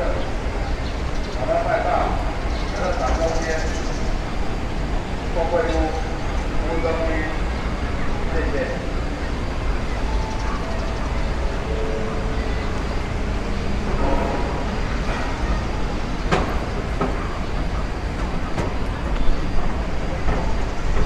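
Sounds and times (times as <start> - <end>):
faint distant voices: 0.0 - 21.0.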